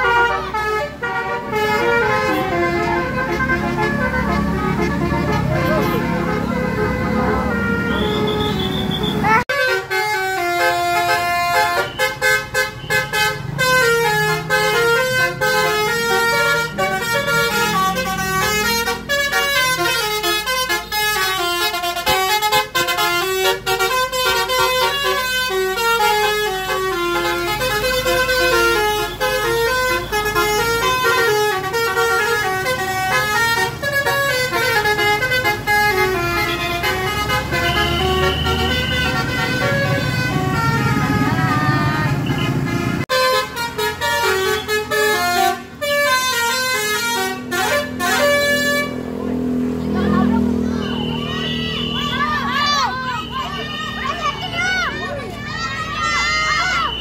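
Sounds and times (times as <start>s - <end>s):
bus musical horn melody: 0.0s - 55.0s, 55.8s - 57.0s.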